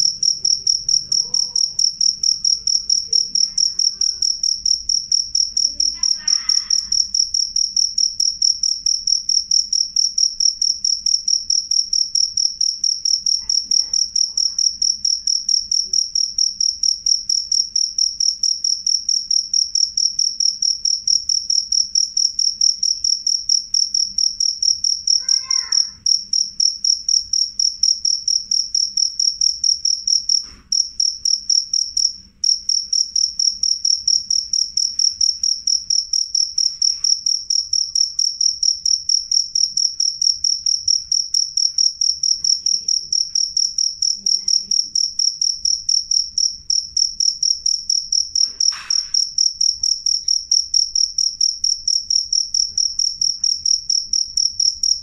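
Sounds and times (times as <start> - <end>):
cricket trilling: 0.0 - 55.0.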